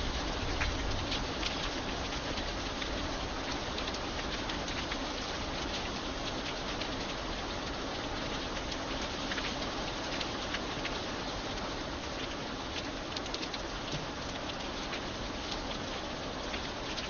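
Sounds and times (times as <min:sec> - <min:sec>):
light rain falling: 0:00.0 - 0:17.0
raindrops ticking: 0:00.0 - 0:17.0.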